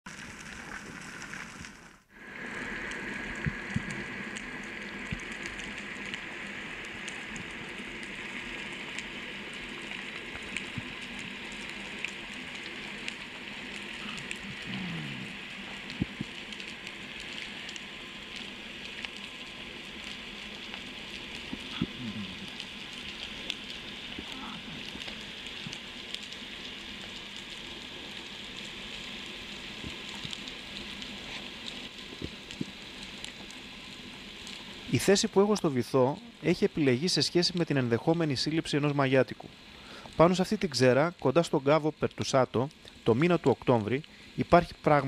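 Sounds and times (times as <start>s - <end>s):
underwater crackling hiss: 0.1s - 45.0s.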